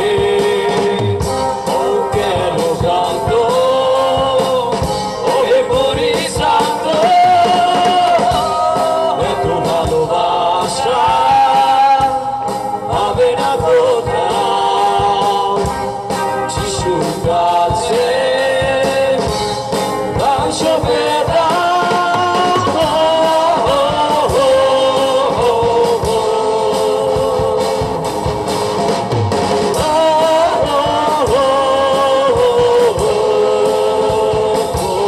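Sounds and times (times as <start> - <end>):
man singing: 0.0 - 28.4, 29.7 - 35.0
rock band playing: 0.0 - 35.0.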